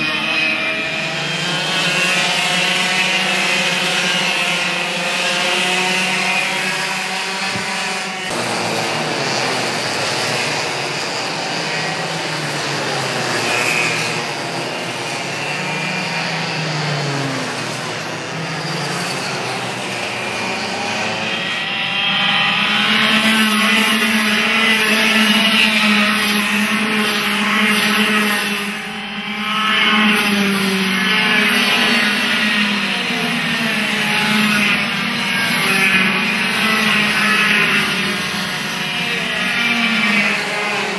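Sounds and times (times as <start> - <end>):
racing kart engines passing: 0.0 - 40.9.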